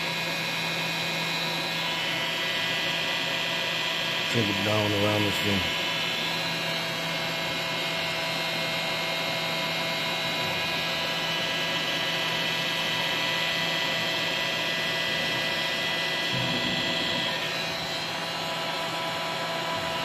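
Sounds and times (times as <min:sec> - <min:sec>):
heat gun whine and blowing air: 0:00.0 - 0:20.0.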